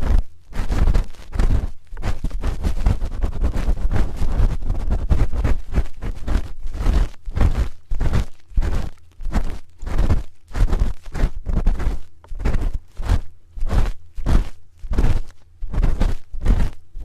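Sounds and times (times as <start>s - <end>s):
spoon scraping microphone: 0.0s - 16.8s.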